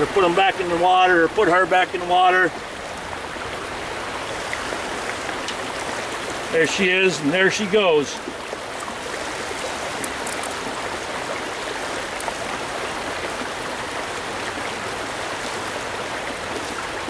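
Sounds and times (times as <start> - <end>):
water rushing in rocky stream: 0.0 - 17.0.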